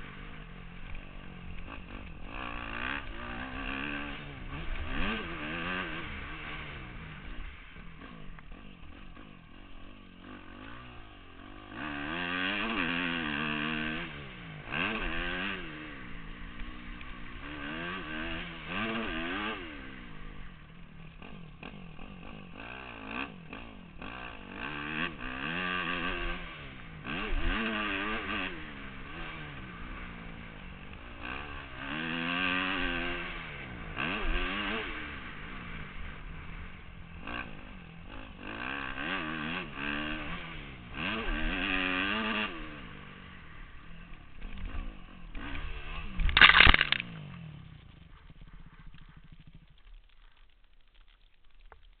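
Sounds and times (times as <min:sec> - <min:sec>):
motorcycle engine revving: 0:00.0 - 0:51.6.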